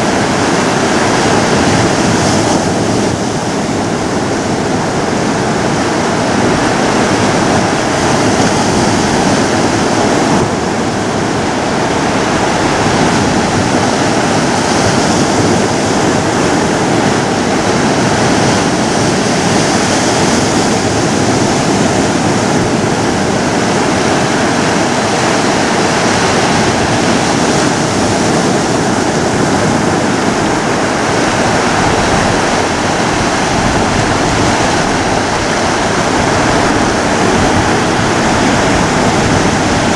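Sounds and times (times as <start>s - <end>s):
ocean waves washing on shore: 0.0s - 39.9s.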